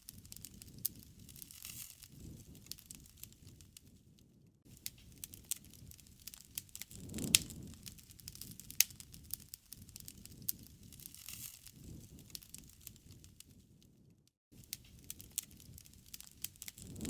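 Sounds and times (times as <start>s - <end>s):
low rush of flames: 0.0s - 17.0s
wood fire crackling and popping: 0.0s - 17.0s.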